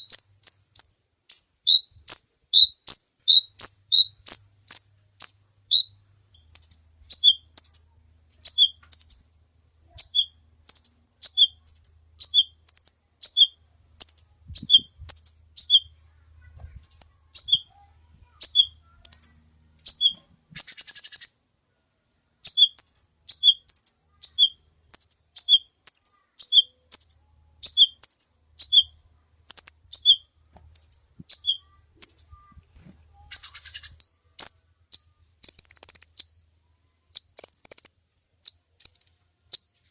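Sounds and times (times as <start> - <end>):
buzzy bird trill: 0.0 - 9.3, 9.9 - 21.4, 22.4 - 36.4, 37.1 - 39.8
bird chirping: 0.0 - 39.9.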